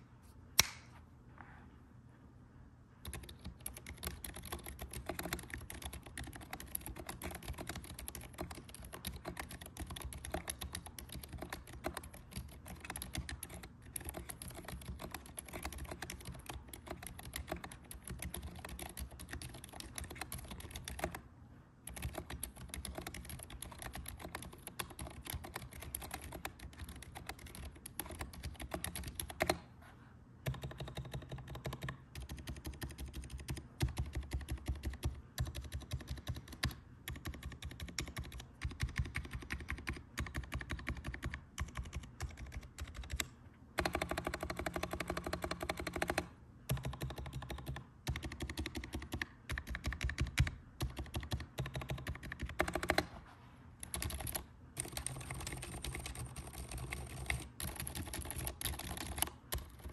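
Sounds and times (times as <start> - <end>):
fast typing on mechanical keyboard: 3.0 - 21.2, 21.9 - 29.6, 30.4 - 53.1, 53.8 - 59.9.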